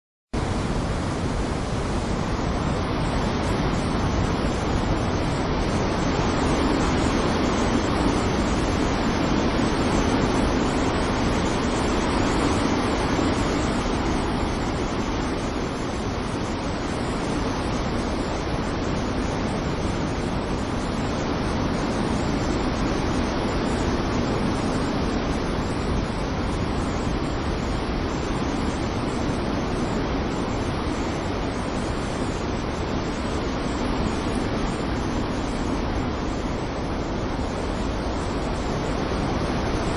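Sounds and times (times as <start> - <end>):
waves breaking: 0.4 - 39.9.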